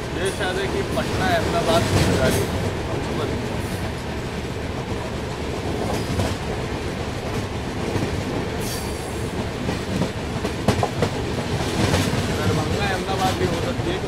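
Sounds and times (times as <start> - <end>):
rail-joint clicks: 0.0 - 14.0
train wheels rumbling on rail: 0.0 - 14.0.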